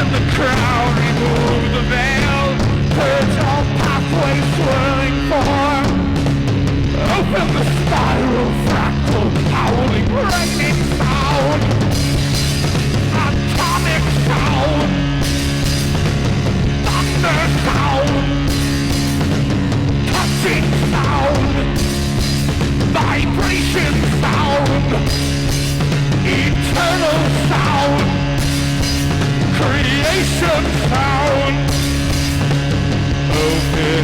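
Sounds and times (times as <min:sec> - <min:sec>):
rock band playing punk music live: 0:00.0 - 0:34.0.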